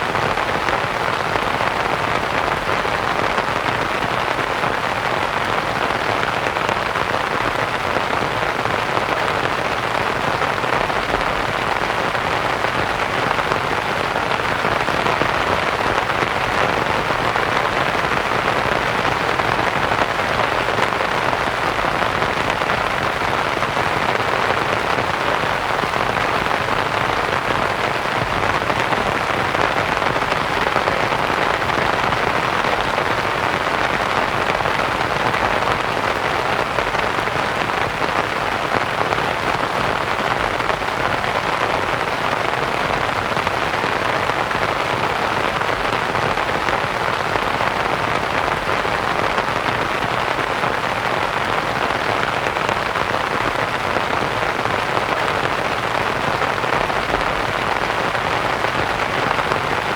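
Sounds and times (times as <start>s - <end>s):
rain pattering on a canvas tent: 0.0s - 59.9s.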